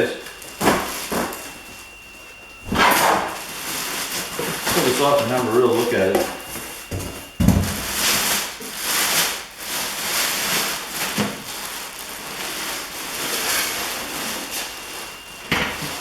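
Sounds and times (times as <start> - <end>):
packaging rustling and crinkling: 0.2 - 16.0.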